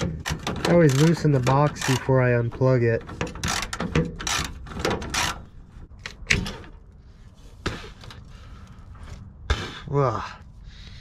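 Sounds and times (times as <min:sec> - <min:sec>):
plastic scraping and rattling: 0:00.0 - 0:09.3.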